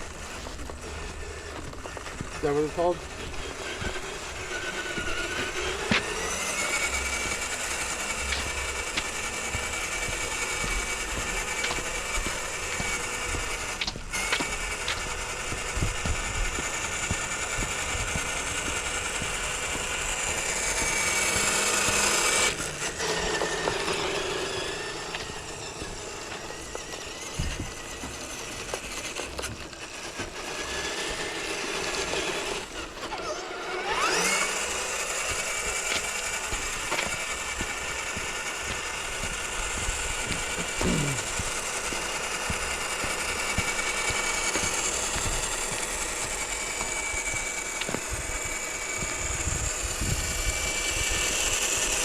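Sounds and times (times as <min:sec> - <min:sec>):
rc truck motor and gear whine: 0:00.0 - 0:52.0.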